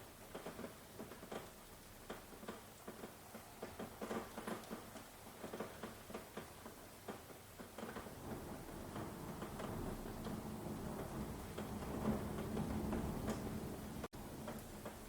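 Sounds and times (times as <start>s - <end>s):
faint hiss of rainfall: 0.0s - 15.0s
raindrops ticking on hard surface: 0.0s - 15.0s.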